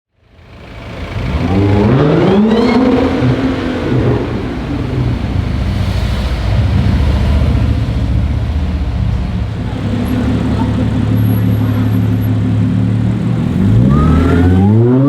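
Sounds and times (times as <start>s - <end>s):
car engine revving: 0.5s - 15.0s.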